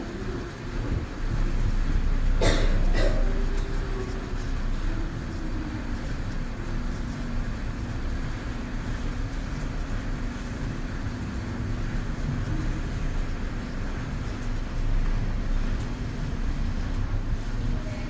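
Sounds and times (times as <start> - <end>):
air conditioner airflow: 0.0 - 18.0.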